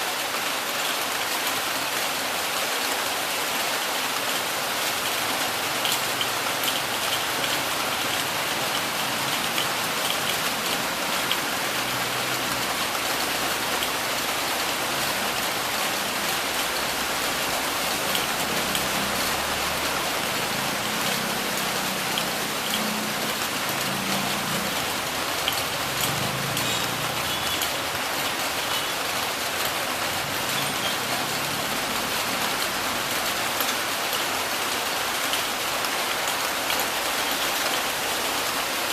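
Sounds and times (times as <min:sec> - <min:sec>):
heavy rain: 0:00.0 - 0:38.9
raindrops ticking on surface: 0:00.1 - 0:38.9.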